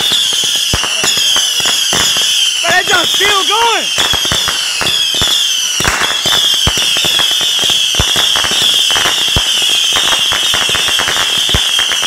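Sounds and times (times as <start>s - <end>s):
fireworks booms: 0.0s - 12.0s
fireworks cracks and pops: 0.0s - 12.0s.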